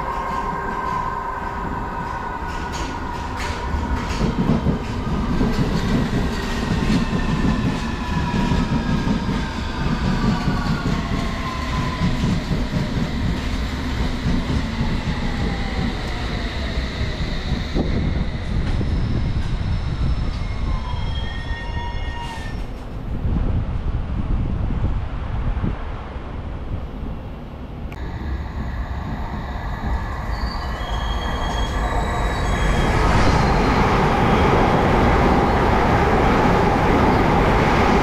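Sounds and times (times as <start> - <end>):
wheels rumbling on rails: 0.0 - 20.4, 27.0 - 38.0.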